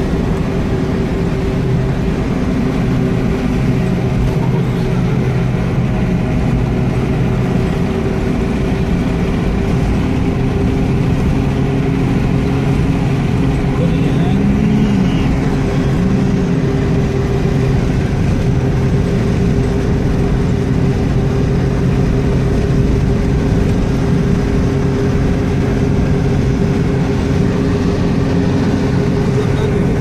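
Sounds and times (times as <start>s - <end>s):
constant low hum: 0.0s - 30.0s
vehicle engine drone and road noise: 0.0s - 30.0s.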